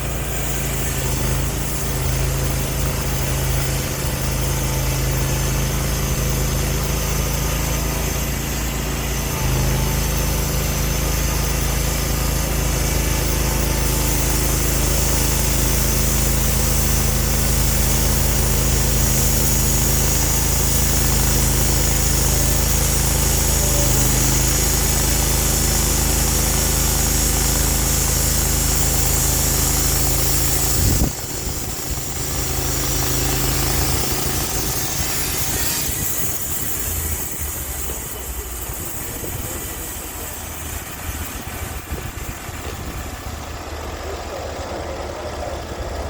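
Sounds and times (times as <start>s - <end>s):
blade cutting through log hiss: 0.0s - 46.0s
sawmill engine running: 0.0s - 46.0s.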